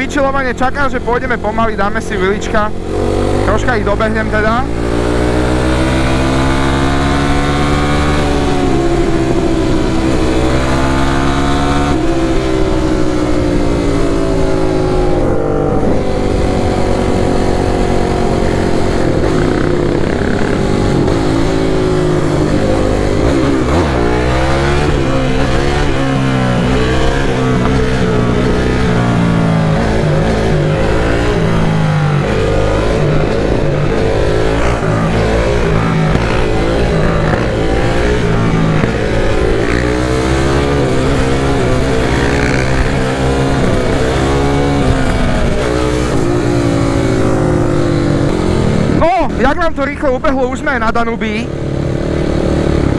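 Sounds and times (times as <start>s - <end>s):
quad bike engine accelerating: 0.0s - 52.9s.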